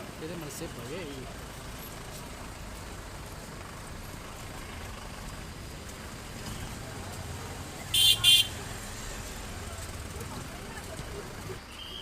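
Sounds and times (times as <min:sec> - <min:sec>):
rain: 0:00.0 - 0:12.0
street traffic: 0:00.0 - 0:12.0.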